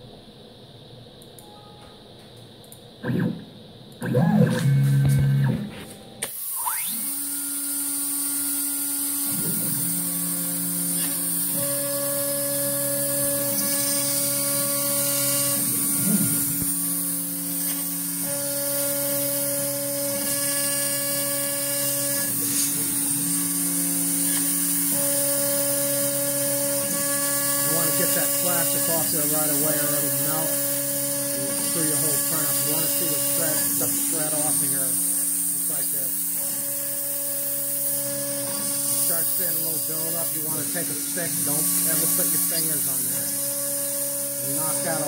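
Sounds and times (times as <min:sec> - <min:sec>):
spindle high whine: 0:00.0 - 0:07.1, 0:09.3 - 0:45.0
axis motors humming: 0:01.2 - 0:45.0.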